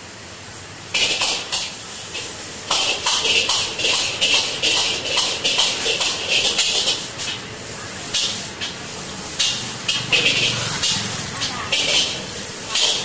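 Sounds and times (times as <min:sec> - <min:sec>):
noodles sizzling in a wok: 0:00.0 - 0:13.0
ladle scraping wok: 0:01.0 - 0:13.0.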